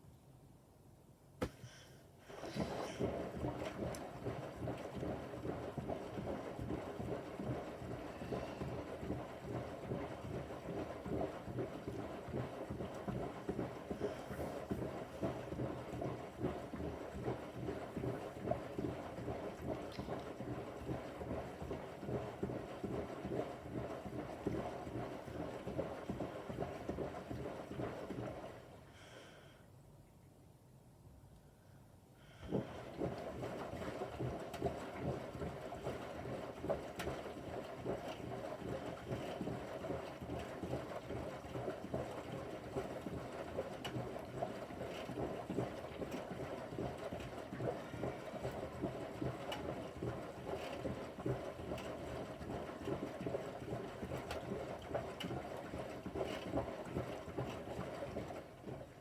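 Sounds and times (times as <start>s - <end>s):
washing machine drum sloshing: 2.2s - 28.8s, 32.3s - 59.0s.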